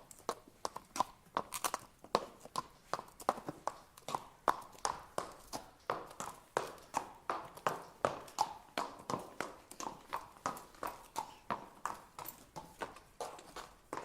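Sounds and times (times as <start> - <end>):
horse hooves clip-clopping: 0.0 - 14.0.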